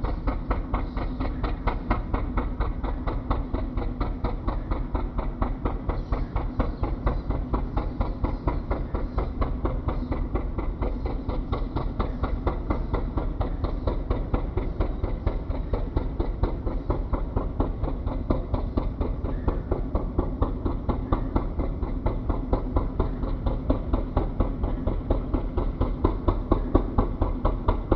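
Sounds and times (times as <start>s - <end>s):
boat diesel engine knocking: 0.0s - 27.9s.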